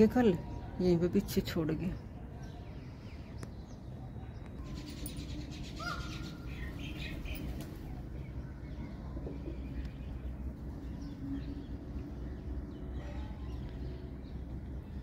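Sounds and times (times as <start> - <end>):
bird calls and chirps: 0.0 - 15.0.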